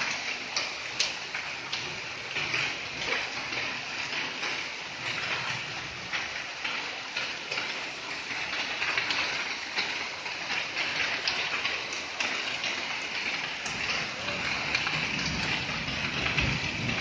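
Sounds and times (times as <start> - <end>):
heavy rain hissing: 0.0 - 17.0
raindrops striking surfaces: 0.0 - 17.0.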